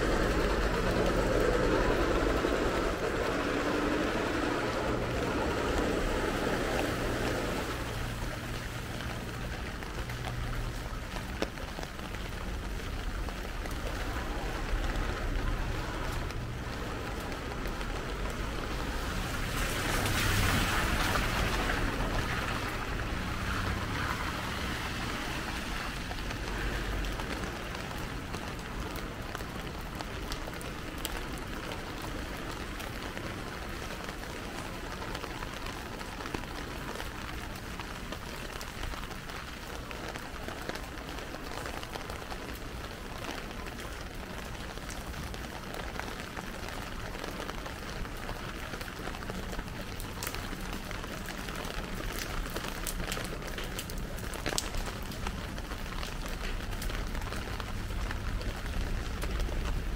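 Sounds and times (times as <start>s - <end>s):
heavy rain pouring: 0.0s - 59.9s
raindrops ticking close by: 0.0s - 59.9s.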